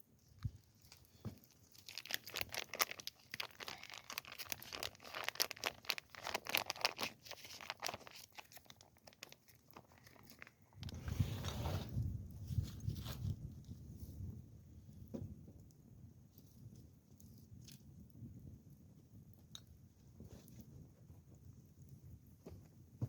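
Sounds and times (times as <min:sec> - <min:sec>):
crinkling and crunching crackles: 0:00.0 - 0:23.0.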